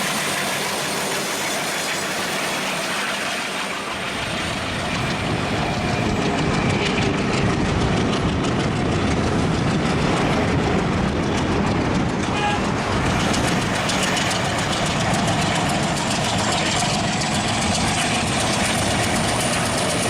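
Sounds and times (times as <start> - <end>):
train wheels clattering on track: 0.0 - 20.0.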